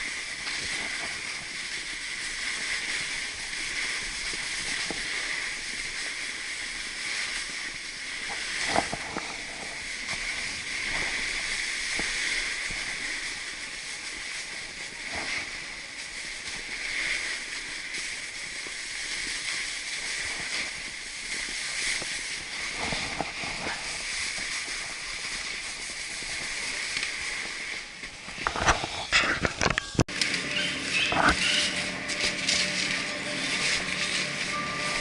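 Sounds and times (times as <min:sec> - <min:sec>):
snowboard hissing over snow: 0:00.0 - 0:29.2
snowboard scrapes: 0:00.0 - 0:35.0.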